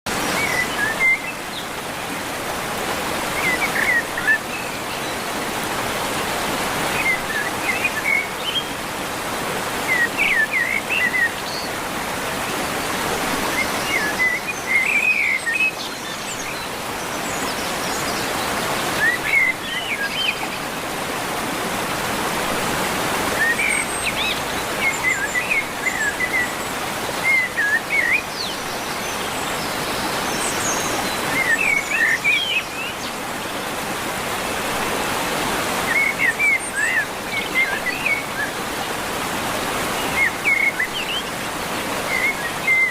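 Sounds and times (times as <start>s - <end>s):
running water: 0.1s - 42.9s.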